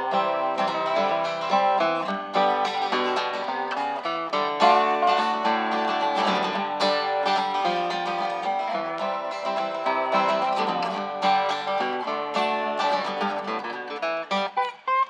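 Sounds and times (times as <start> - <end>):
acoustic guitar plucked notes: 0.0 - 15.0
lap steel guitar sliding notes: 0.0 - 15.0.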